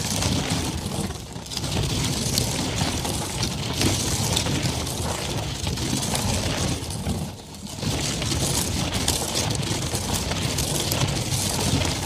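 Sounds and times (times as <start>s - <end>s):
catapult rolling on dirt road: 0.0s - 12.0s.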